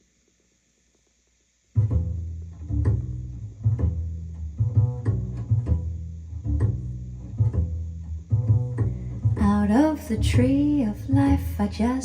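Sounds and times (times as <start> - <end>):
plucked double bass: 1.8 - 12.0.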